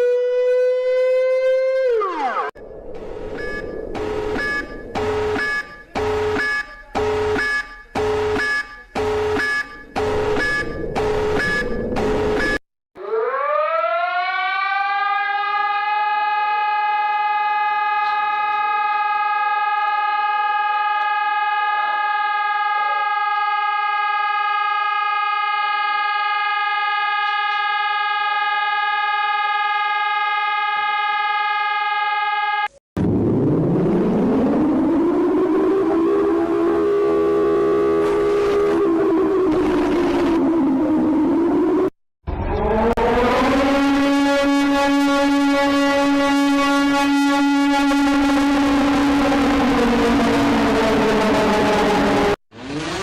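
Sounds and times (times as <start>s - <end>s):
siren winding up: 0.0s - 52.4s
pulsed siren signal: 0.0s - 53.0s.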